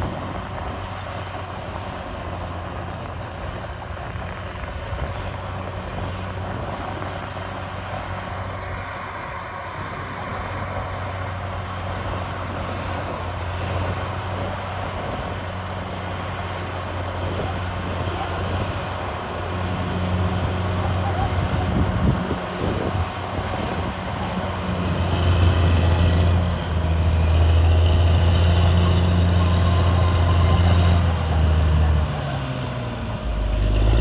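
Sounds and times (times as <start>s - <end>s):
bulldozer diesel engine: 0.0s - 34.0s
thin high squeal: 6.6s - 34.0s.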